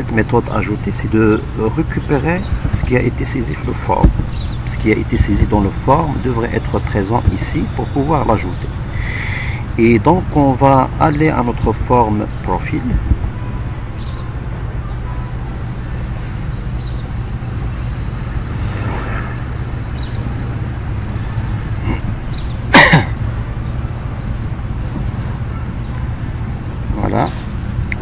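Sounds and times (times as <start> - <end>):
low hum: 2.5 - 28.0.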